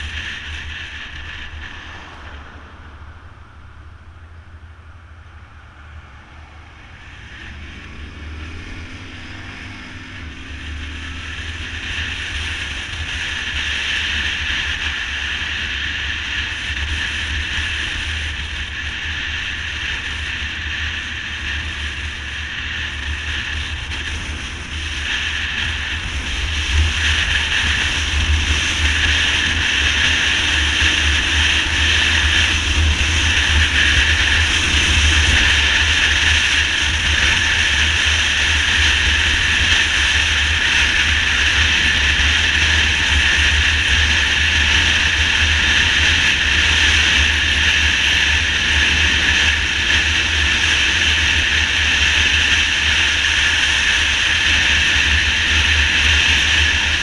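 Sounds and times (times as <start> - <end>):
motorcycle engine rumble: 0.0 - 57.0
road noise: 0.0 - 57.0.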